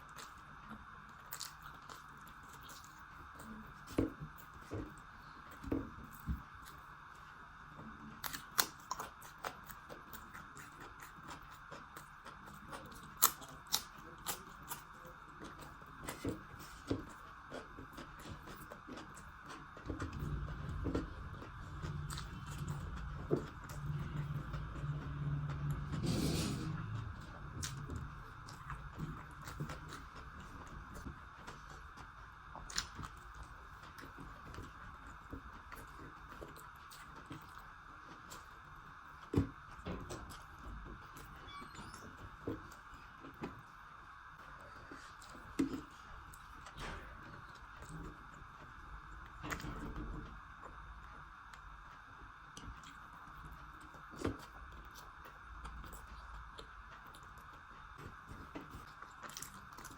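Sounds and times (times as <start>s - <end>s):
person chewing food: 0.0s - 41.4s, 52.5s - 59.9s.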